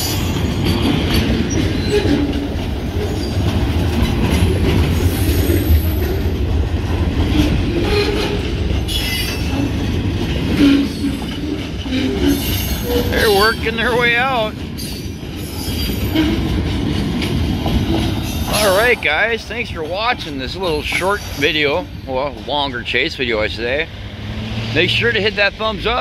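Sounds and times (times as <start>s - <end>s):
rail-joint clatter: 0.0s - 26.0s
train wheels rumbling on rail: 0.0s - 26.0s
wheels squealing: 0.0s - 26.0s.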